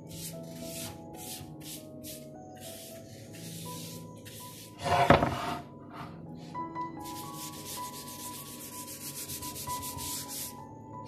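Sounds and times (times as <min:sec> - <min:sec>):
soft background music: 0:00.0 - 0:11.0
tissue rubbing on cutting board: 0:00.1 - 0:06.0, 0:07.0 - 0:10.5.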